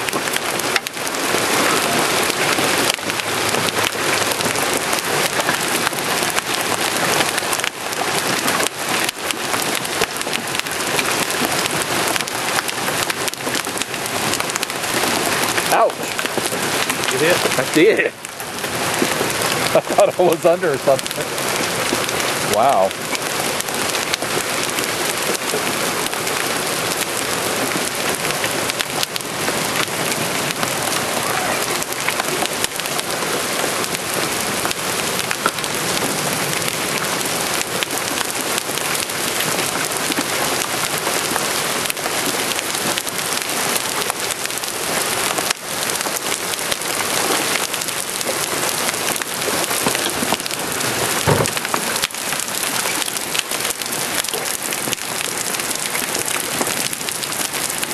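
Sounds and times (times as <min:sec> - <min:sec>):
hailstones cracking: 0:00.0 - 0:57.9
heavy rain: 0:00.0 - 0:57.9.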